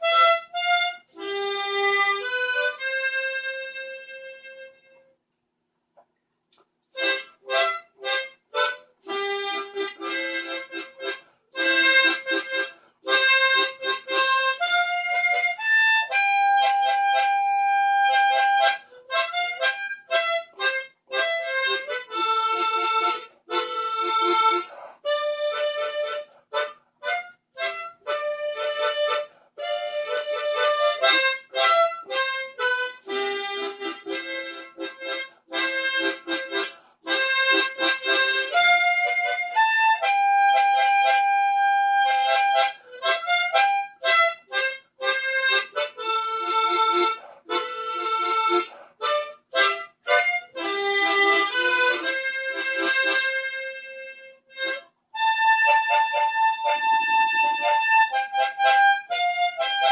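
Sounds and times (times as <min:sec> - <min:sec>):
solo harmonica melody: 0:00.0 - 0:05.2, 0:06.9 - 0:59.9.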